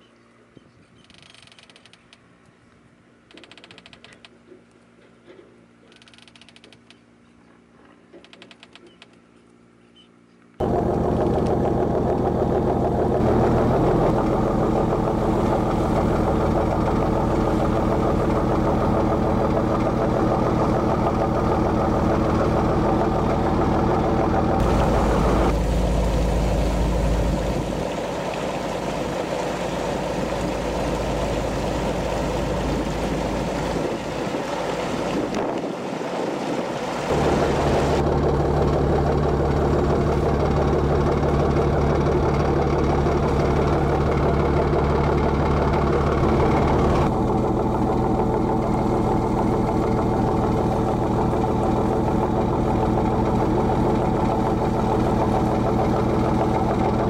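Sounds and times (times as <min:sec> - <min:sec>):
diesel engines running: 0:10.6 - 0:57.0.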